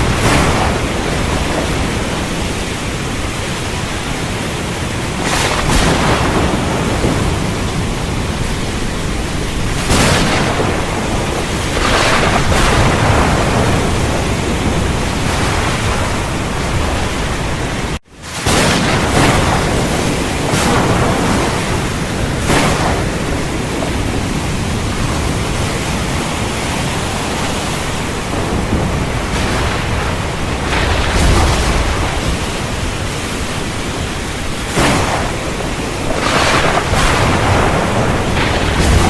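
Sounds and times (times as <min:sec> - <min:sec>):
heavy rain pouring: 0:00.0 - 0:39.0
low thunder rumble: 0:00.0 - 0:39.0
sharp thunder cracks: 0:00.0 - 0:39.0.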